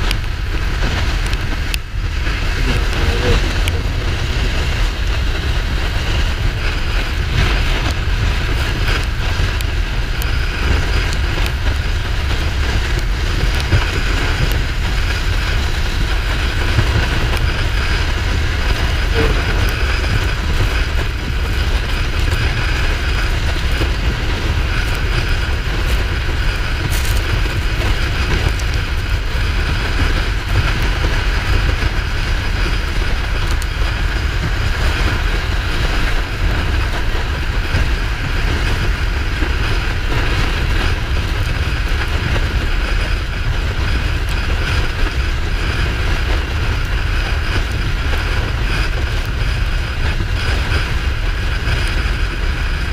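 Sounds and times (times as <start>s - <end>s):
motorcycle engine running: 0.0s - 52.9s
wind rush over microphone: 0.0s - 52.9s.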